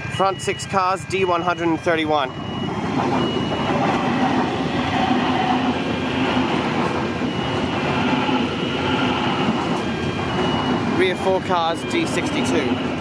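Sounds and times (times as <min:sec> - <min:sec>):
faint steady tones: 0:00.0 - 0:13.0
train wheels rumbling on rail: 0:00.0 - 0:13.0.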